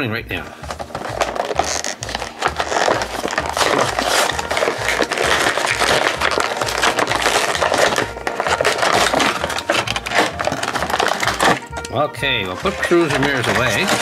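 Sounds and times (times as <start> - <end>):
background music with beat: 0.0 - 14.0
plastic packaging crackling: 0.6 - 14.0.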